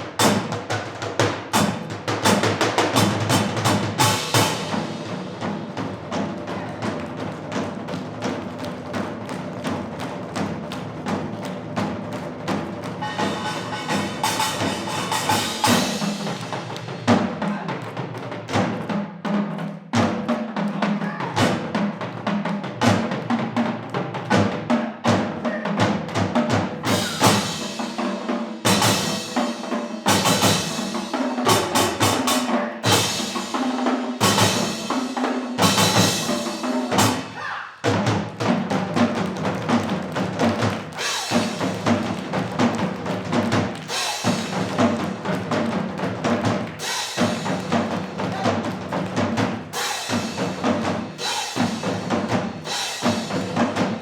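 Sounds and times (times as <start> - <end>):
drums beating: 0.0 - 54.0.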